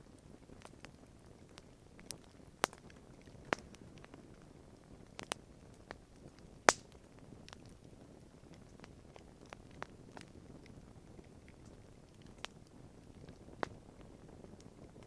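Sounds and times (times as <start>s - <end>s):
campfire crackling and popping: 0.0s - 15.0s
soft steady hiss of fire: 0.0s - 15.0s.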